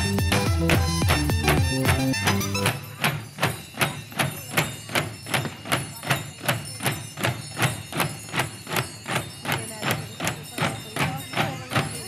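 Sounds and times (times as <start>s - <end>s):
drums beaten in steady rhythm: 0.0s - 12.0s.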